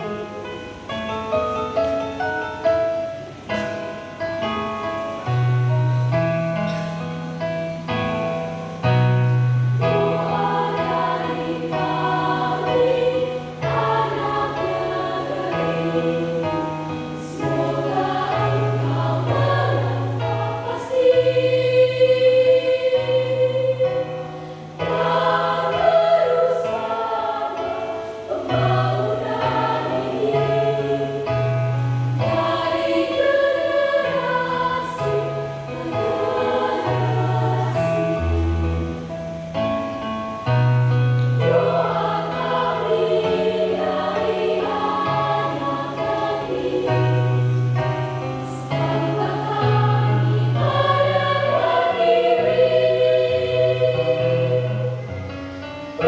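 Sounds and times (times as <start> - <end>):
choir singing in parts: 7.8 - 39.7, 41.1 - 56.0.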